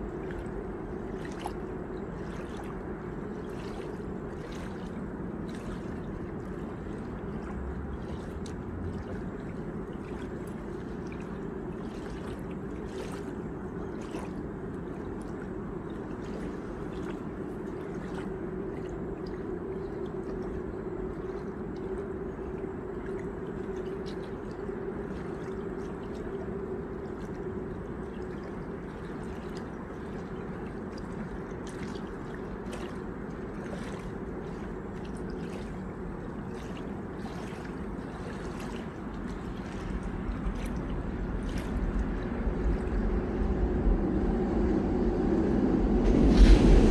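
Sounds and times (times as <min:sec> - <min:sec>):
river water lapping at bank: 0:00.0 - 0:46.9.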